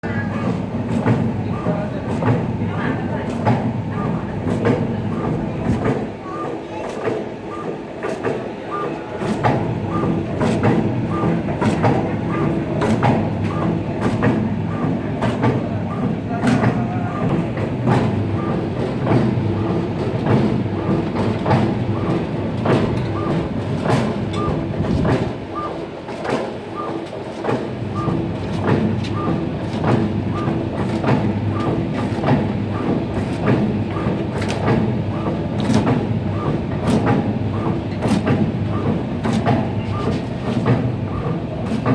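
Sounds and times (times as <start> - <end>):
slicing machine motor hum: 8.0 - 41.9.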